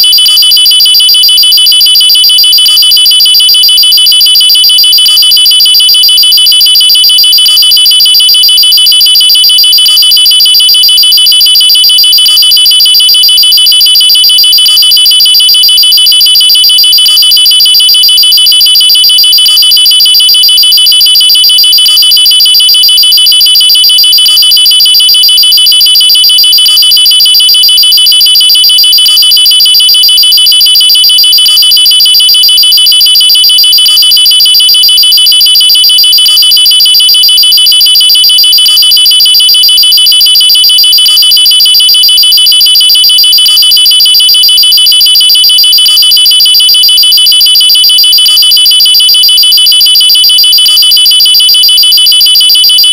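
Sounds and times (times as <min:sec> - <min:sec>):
pulsing electronic alarm tone: 0:00.0 - 0:52.9.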